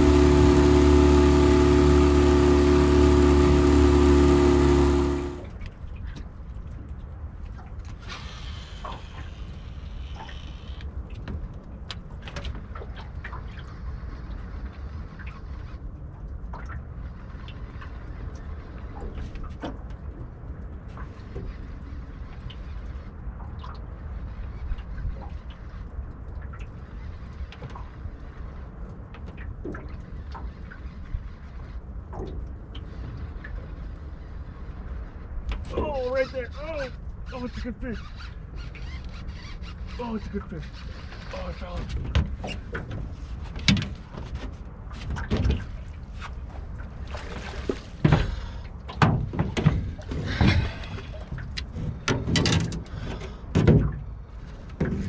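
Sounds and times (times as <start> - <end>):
water lapping against boat hull: 0.0 - 55.0.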